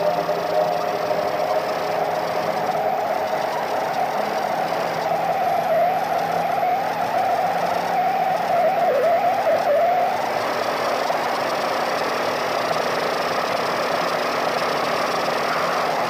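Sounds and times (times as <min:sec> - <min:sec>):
warbling tone: 0:00.0 - 0:16.0.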